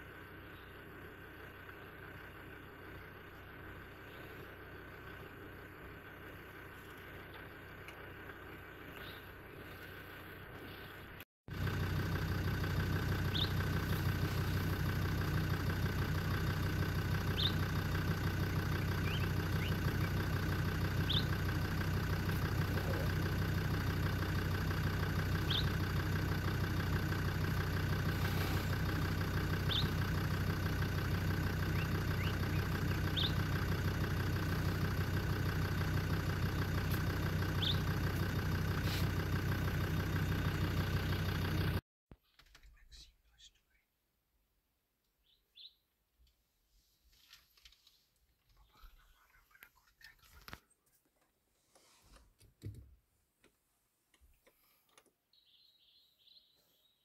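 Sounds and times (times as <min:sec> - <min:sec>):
vehicle engine idling: 0:00.0 - 0:41.8, 0:45.2 - 0:51.0.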